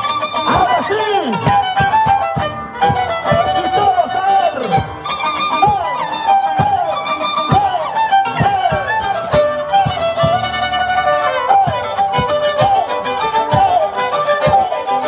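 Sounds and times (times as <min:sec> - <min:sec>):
low beats: 0:00.0 - 0:15.0
violin fast sliding melody: 0:00.0 - 0:15.0.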